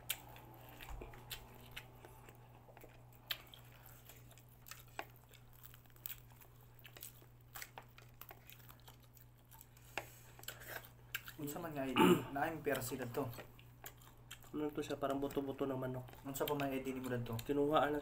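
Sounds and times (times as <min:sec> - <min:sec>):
quiet chewing: 0:00.0 - 0:18.0
steady low hum: 0:00.0 - 0:18.0
crisp breading crackling: 0:00.1 - 0:18.0.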